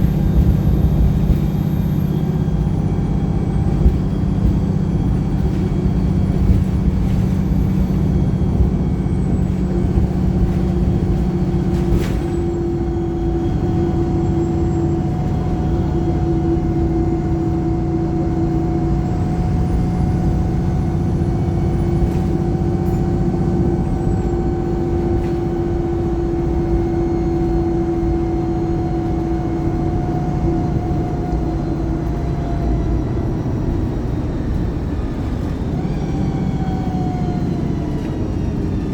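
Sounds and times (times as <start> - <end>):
bus engine droning: 0.0 - 38.9.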